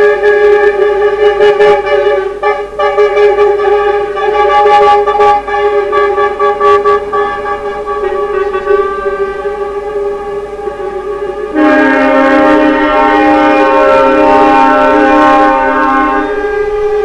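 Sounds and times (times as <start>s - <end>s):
truck air horns blaring: 0.0s - 17.0s.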